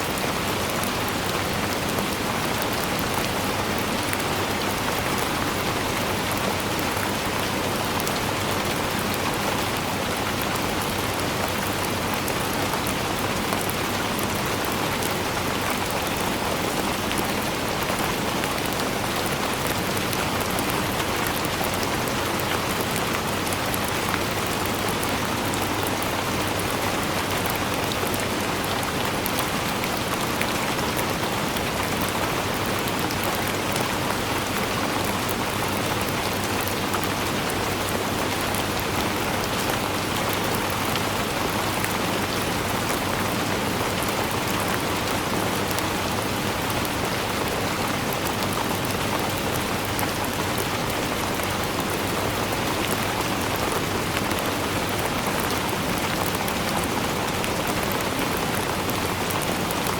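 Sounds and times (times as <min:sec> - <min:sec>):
dense rain pattering: 0:00.0 - 0:59.9.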